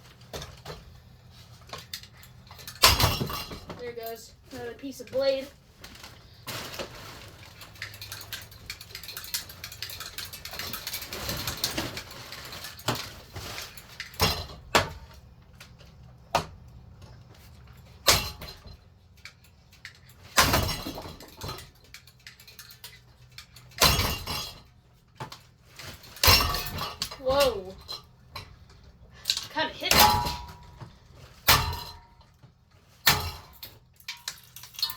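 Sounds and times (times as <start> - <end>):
fan parts breaking and clattering: 0.1 - 34.9.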